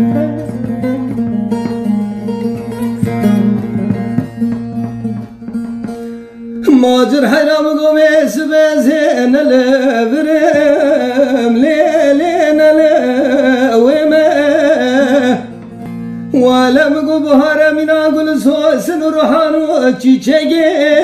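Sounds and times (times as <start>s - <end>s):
person singing folk melody: 0.0s - 21.0s.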